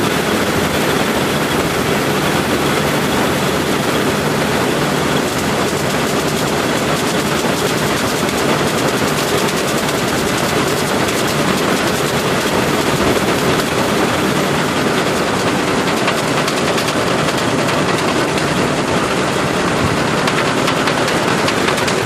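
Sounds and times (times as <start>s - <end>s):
combine harvester engine: 0.0s - 22.0s
mechanical rattle and clatter: 0.0s - 22.0s.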